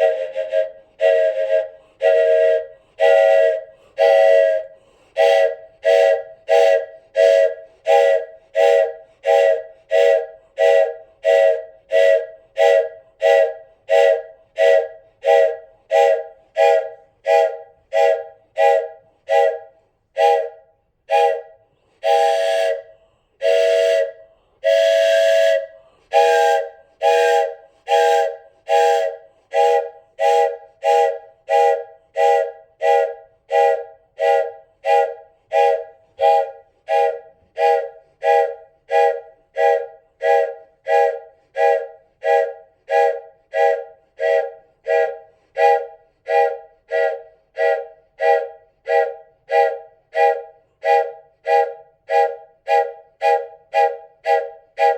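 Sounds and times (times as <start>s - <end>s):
wooden train whistle toots: 0.0s - 54.9s.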